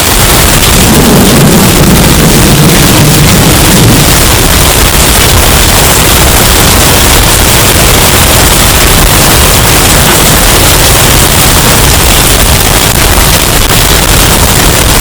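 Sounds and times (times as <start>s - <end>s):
distorted hurricane wind: 0.0s - 15.0s.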